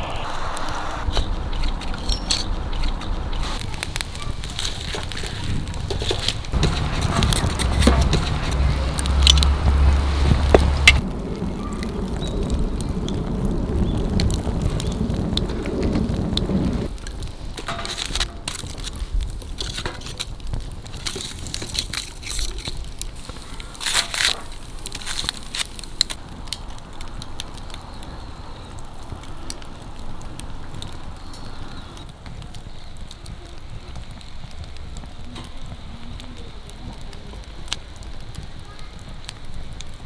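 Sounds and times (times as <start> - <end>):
leaf fire crackling: 0.0 - 40.0
rustling crunching noise: 0.0 - 40.0.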